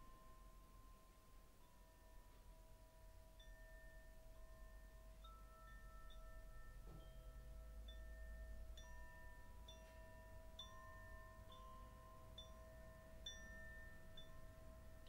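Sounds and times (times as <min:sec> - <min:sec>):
soft bell notes: 0:00.0 - 0:15.0.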